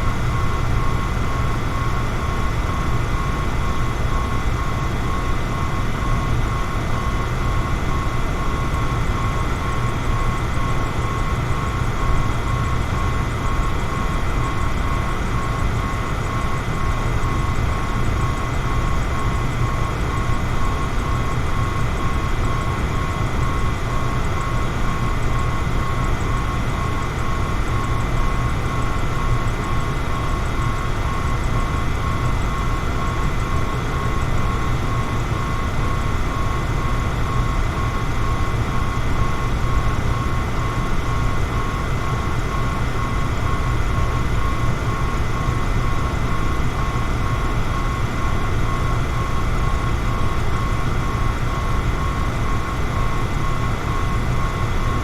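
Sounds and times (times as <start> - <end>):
electric fan air rush: 0.0 - 55.0
thin motor whine: 0.0 - 55.0.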